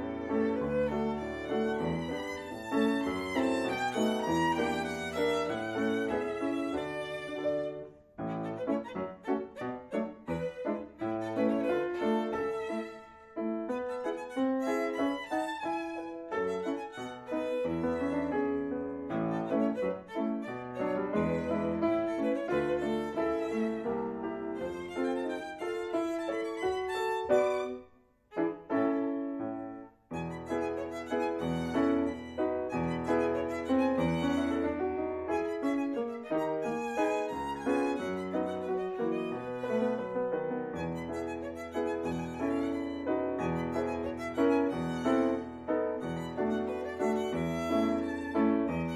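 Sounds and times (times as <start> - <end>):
violin playing lively melody: 0.0 - 27.8, 30.1 - 48.9.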